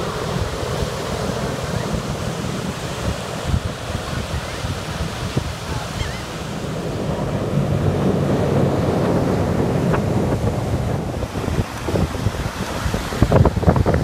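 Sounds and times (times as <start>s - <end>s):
helicopters droning: 0.0s - 12.5s
breaking surf: 0.0s - 14.0s
wind buffeting microphone: 0.0s - 14.0s.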